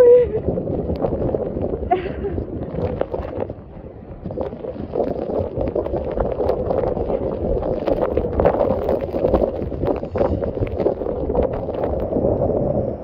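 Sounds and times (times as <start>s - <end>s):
wind rumbling on microphone: 0.0s - 13.0s
hail and heavy rain pelting: 0.1s - 12.3s.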